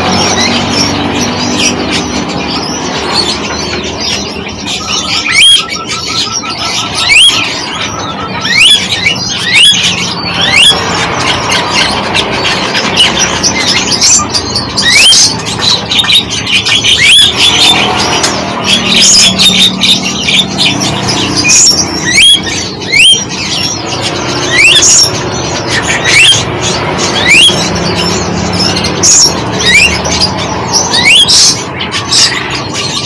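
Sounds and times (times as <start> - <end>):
fast bird trill: 0.0 - 33.0
songbirds chirping: 0.0 - 33.0.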